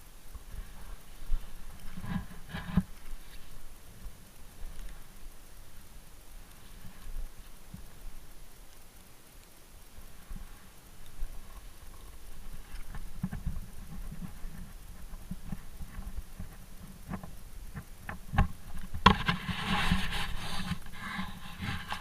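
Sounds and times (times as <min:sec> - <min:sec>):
bicycle crunching over snow: 0:00.0 - 0:22.0.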